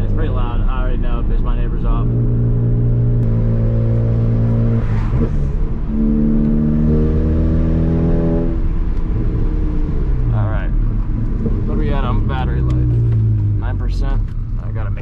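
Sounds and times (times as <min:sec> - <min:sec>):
loud car engine driving: 0:00.0 - 0:15.0.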